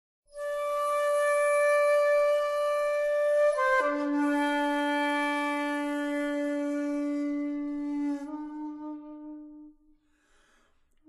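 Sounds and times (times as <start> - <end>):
breathy solo flute: 0.3 - 10.9.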